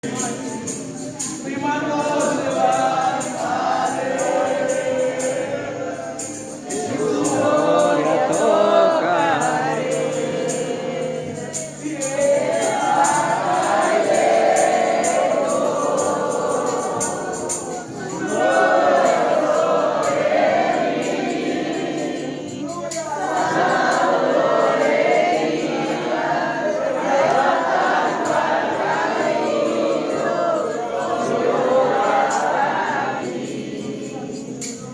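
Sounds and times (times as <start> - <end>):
congregation singing: 0.0 - 34.9
rhythmic percussion: 0.0 - 34.9.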